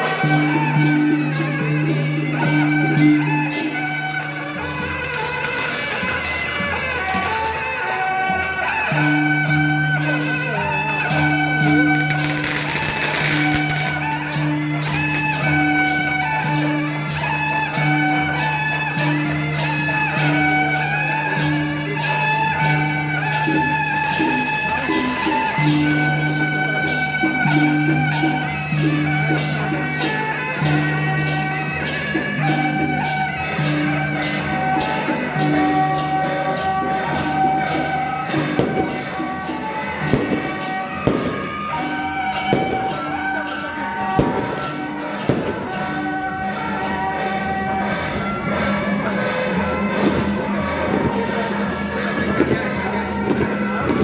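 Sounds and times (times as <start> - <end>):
quick percussion strikes: 0.0 - 54.0.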